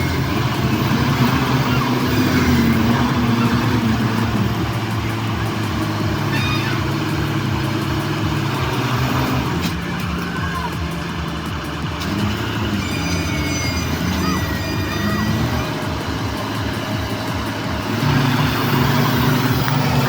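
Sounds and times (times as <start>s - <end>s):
large diesel engine running: 0.0s - 20.0s.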